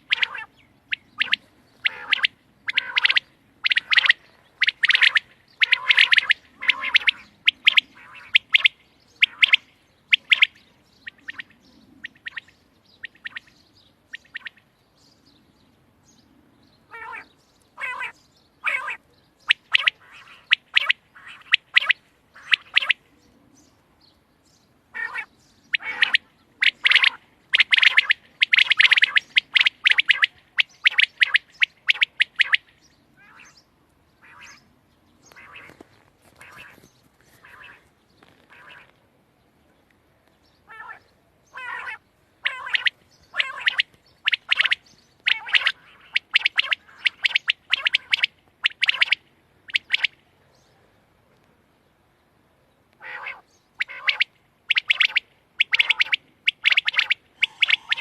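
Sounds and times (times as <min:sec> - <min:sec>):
quail chirping calls: 0:00.0 - 0:14.7, 0:16.3 - 0:23.4, 0:24.9 - 0:39.0, 0:40.5 - 0:50.2, 0:53.0 - 0:58.0.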